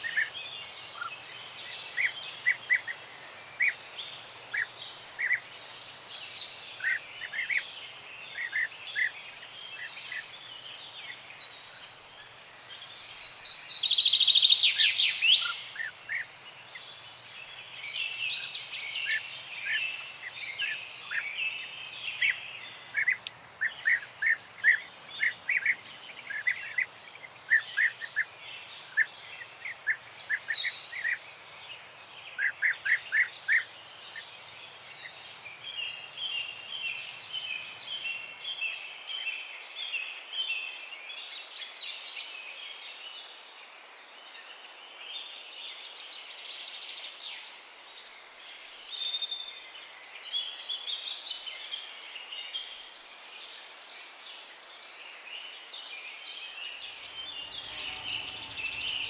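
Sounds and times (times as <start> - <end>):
faint steady hiss: 0.0 - 59.0
small songbirds chirping: 0.0 - 59.0.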